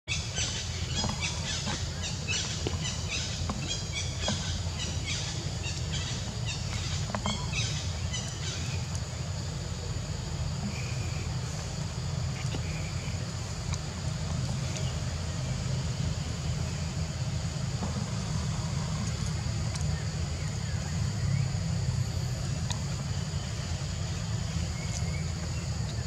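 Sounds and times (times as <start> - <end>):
low rumble: 0.2 - 26.0.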